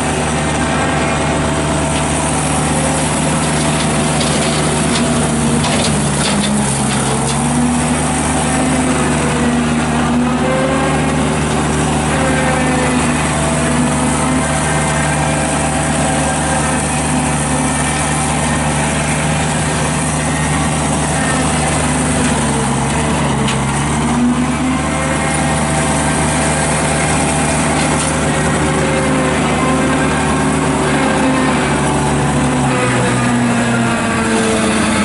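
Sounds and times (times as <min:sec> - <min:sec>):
skid steer engine running: 0:00.0 - 0:35.0.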